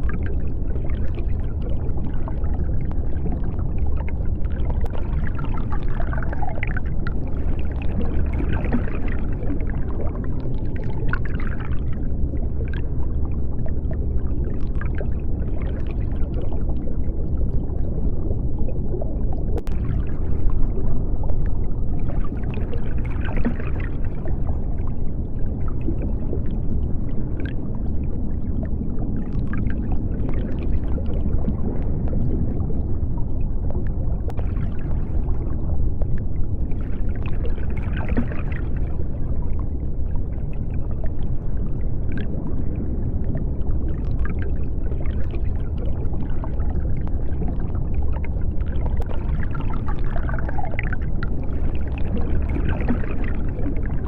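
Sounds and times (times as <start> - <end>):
deep underwater rumble: 0.0 - 54.0
underwater bubbling: 0.0 - 54.0.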